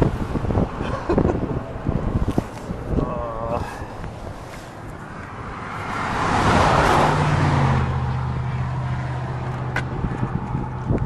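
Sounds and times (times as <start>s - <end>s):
road vehicle passing by: 0.0s - 11.0s.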